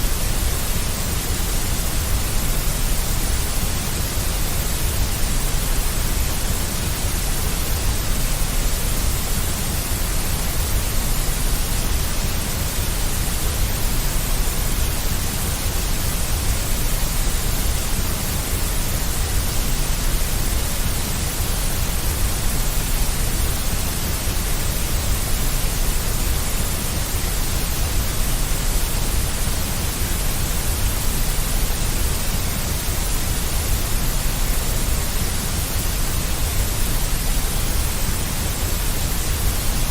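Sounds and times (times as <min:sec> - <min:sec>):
white noise with low rumble: 0:00.0 - 0:39.9.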